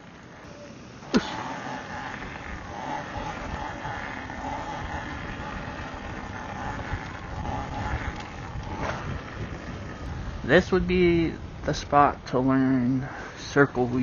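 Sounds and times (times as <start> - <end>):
electric dirt bike motor whine: 0.0 - 14.0
rough uneven rumble: 0.0 - 14.0.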